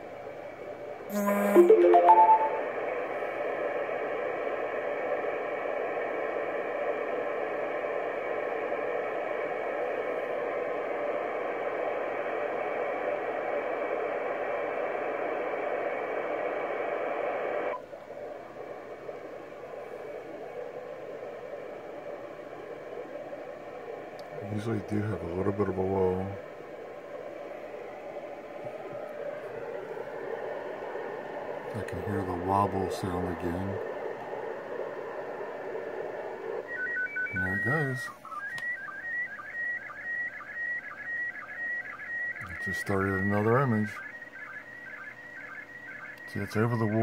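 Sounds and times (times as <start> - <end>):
radio static hiss: 0.0 - 47.0.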